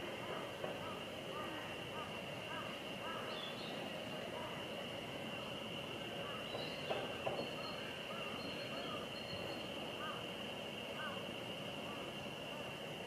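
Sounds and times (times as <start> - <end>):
steady high-pitched hiss: 0.0 - 13.0
small birds chirping: 0.8 - 5.5, 6.1 - 12.7.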